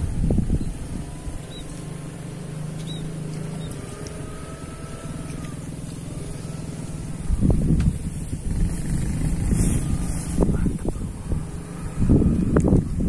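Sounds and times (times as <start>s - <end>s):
low rumble of wind buffeting: 0.0s - 13.0s
small motorcycle engine running: 0.1s - 13.0s.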